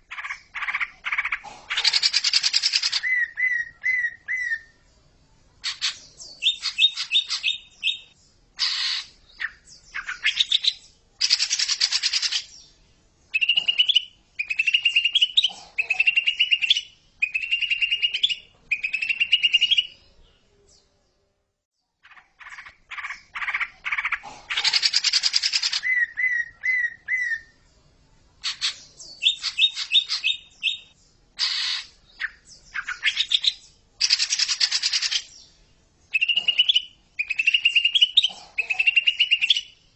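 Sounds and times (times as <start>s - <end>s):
bird singing chirps and rattles: 0.1s - 4.7s, 5.6s - 12.7s, 13.3s - 20.0s, 22.0s - 27.5s, 28.4s - 35.5s, 36.1s - 39.8s.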